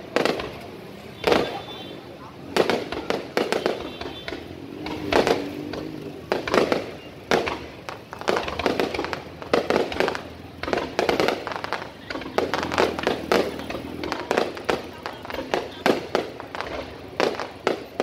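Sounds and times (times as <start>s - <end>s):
fireworks bursting with echo: 0.0s - 18.0s.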